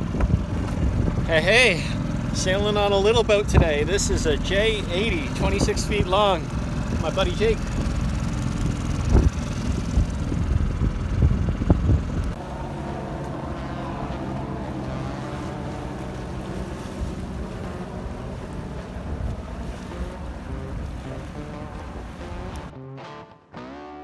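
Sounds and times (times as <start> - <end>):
wind buffeting microphone: 0.0 - 22.7.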